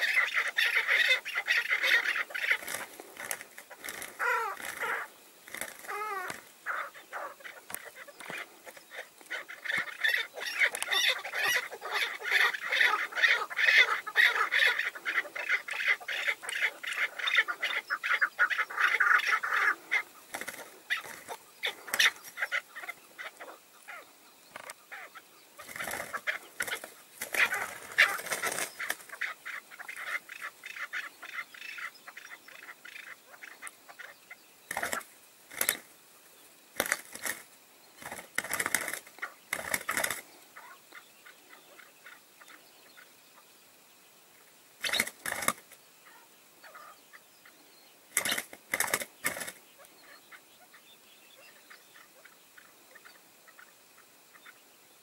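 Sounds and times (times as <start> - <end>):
partridge clucking calls: 0.0 - 36.0, 36.7 - 43.5, 44.8 - 54.6.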